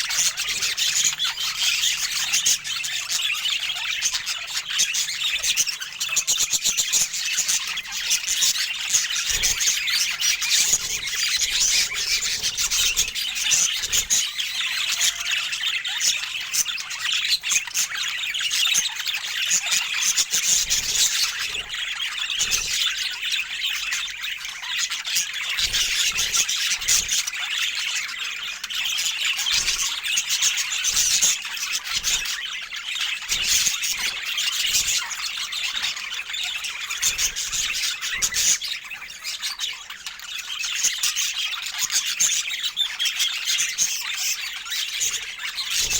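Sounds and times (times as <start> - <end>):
budgerigars chattering: 0.0 - 45.9.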